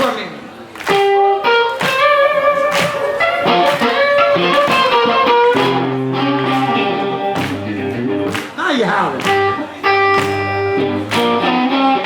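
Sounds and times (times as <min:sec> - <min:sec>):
electric blues guitar: 0:00.8 - 0:12.0.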